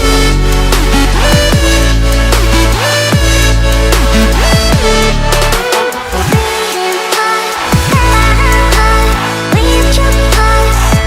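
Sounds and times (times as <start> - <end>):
dubstep music with heavy bass: 0.0 - 11.0.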